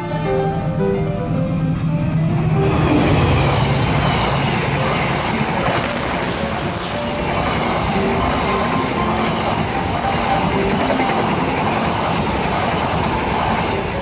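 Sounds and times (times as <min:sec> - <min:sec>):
locomotive passing: 0:00.0 - 0:14.0
train wheels on rails: 0:00.0 - 0:14.0.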